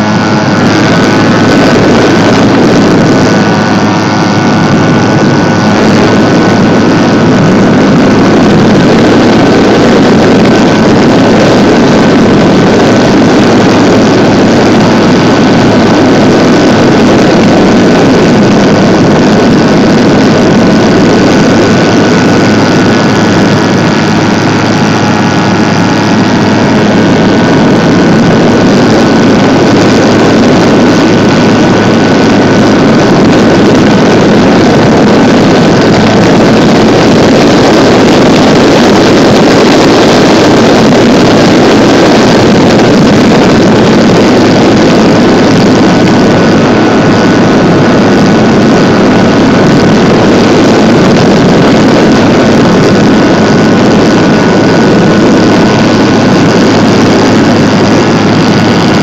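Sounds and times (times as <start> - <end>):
electric motor and propeller drone: 0.0 - 59.0
wind over microphone: 0.0 - 59.0.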